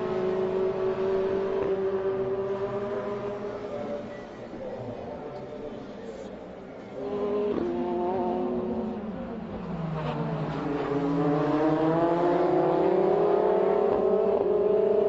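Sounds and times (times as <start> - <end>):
racing car engines accelerating: 0.0 - 6.1, 6.8 - 15.0.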